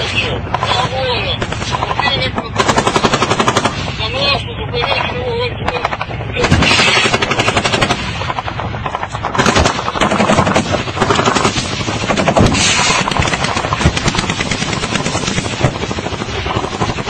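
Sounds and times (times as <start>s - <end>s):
automatic gunfire: 1.4s - 3.9s, 5.7s - 17.0s.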